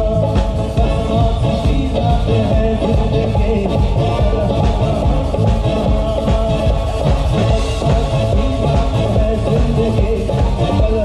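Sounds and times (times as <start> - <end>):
drums: 0.0 - 11.0
electric bass: 0.0 - 11.0
keyboards: 0.0 - 11.0
person singing: 0.0 - 11.0.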